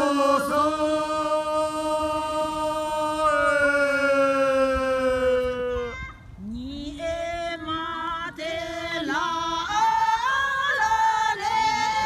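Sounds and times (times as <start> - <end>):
mixed group singing unaccompanied: 0.0 - 4.6, 6.8 - 12.0.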